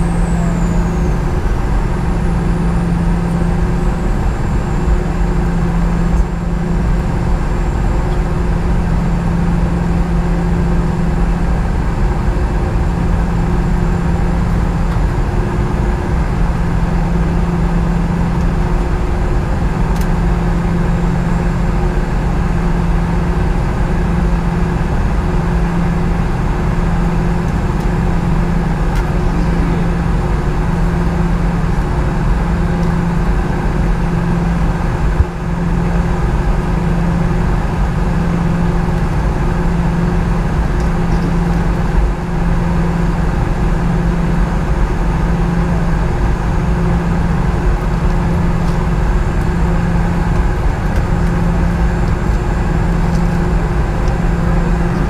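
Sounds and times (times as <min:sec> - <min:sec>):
high engine whine: 0:00.0 - 0:55.0
jet engine drone: 0:00.0 - 0:55.0.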